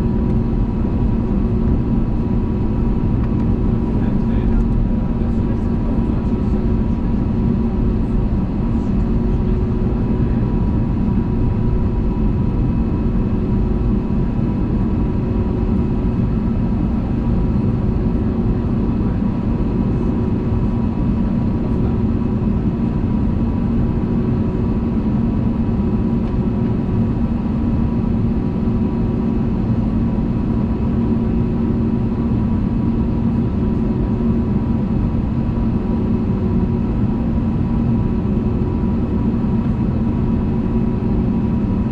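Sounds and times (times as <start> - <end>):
airplane cabin engine drone: 0.0 - 41.9
steady humming tones: 0.0 - 41.9.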